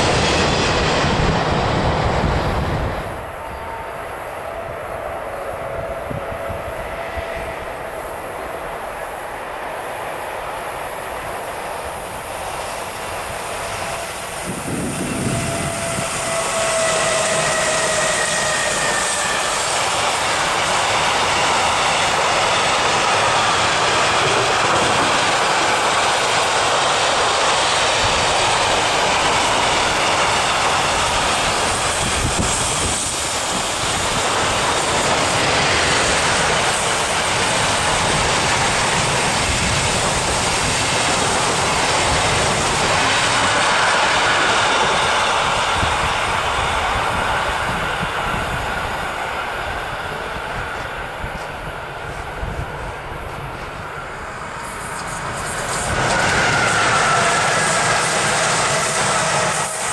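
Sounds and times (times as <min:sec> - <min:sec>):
freight train passing with rumble: 0:00.0 - 0:59.9
passenger train passing: 0:00.0 - 0:59.9.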